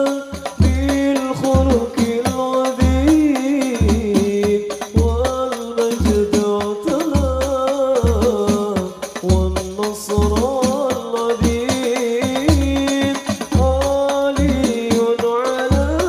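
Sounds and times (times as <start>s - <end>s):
deep bass drum beat: 0.0s - 16.0s
hand-struck frame drums: 0.0s - 16.0s.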